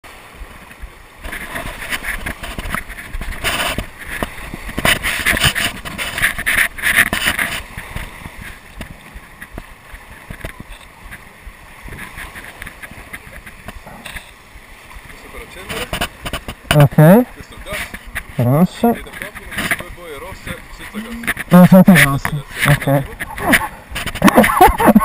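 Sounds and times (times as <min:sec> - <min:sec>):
sea waves splashing: 0:00.0 - 0:25.0.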